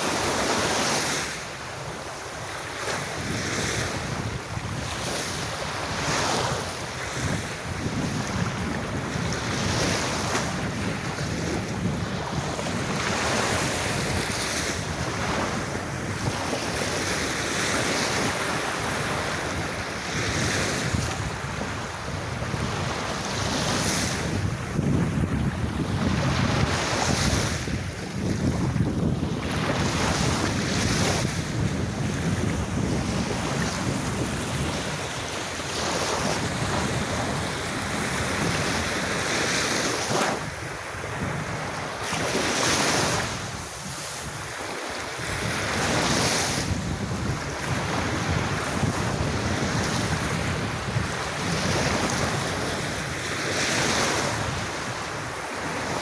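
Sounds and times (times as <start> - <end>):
sea waves breaking on beach: 0.0 - 56.0
wind rumbling on microphone: 0.0 - 56.0.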